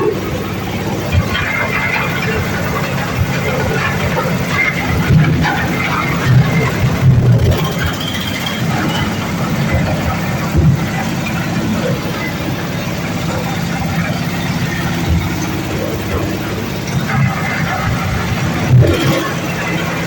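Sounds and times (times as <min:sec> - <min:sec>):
chopping machine humming: 0:00.0 - 0:20.0.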